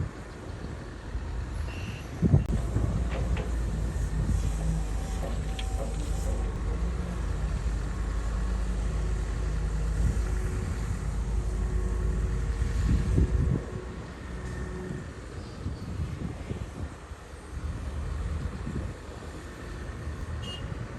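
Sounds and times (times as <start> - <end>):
bulldozer diesel engine rumbling: 0.0 - 20.9.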